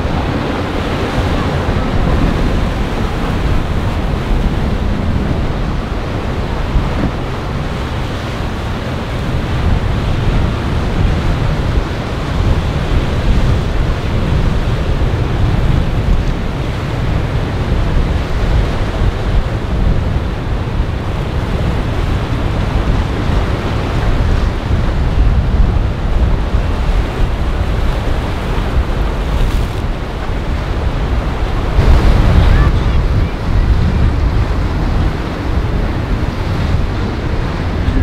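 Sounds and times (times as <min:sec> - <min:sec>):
boat wake washing: 0:00.0 - 0:38.0
rough sea breaking: 0:00.0 - 0:38.0
wind buffeting microphone: 0:00.0 - 0:38.0.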